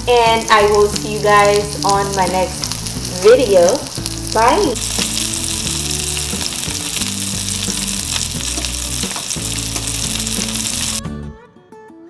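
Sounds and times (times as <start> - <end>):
fish sizzling in a skillet: 0.0 - 11.0.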